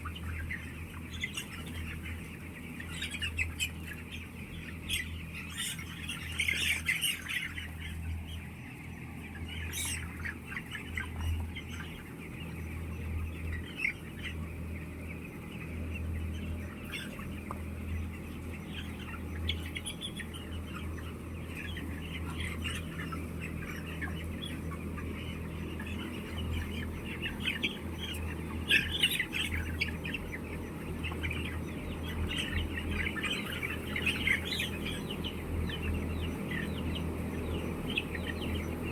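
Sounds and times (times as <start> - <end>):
chickens calling and squawking: 0.0 - 38.9.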